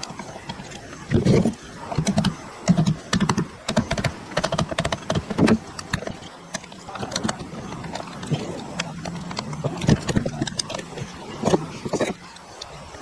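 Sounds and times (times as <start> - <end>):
hard objects clicking and knocking: 0.6 - 12.4.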